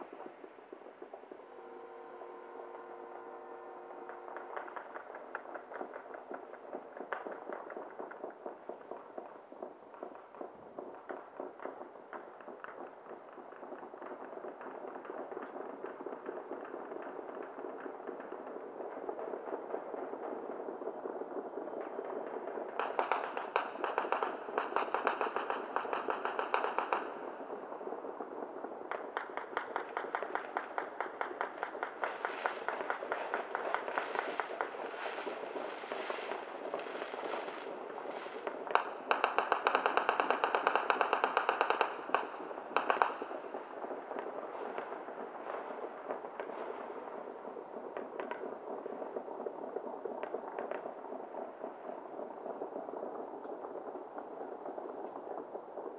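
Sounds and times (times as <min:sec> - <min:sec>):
firecrackers popping: 0:00.0 - 0:55.9.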